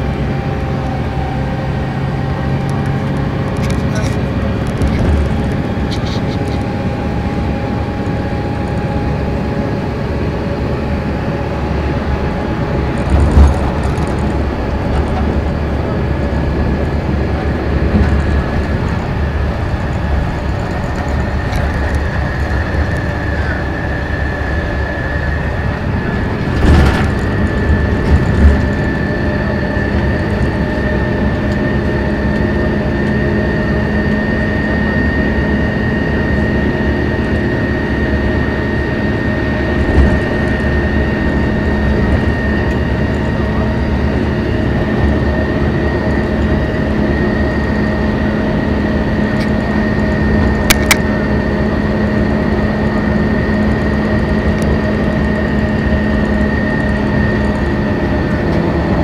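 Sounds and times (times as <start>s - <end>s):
bus diesel engine running: 0.0s - 59.0s
road and tyre noise: 0.0s - 59.0s
steady high whine: 0.0s - 59.0s.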